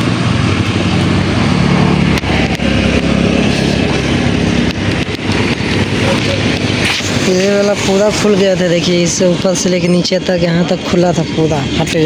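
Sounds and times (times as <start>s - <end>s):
motorcycle engine running: 0.0s - 12.0s
road traffic: 0.0s - 12.0s.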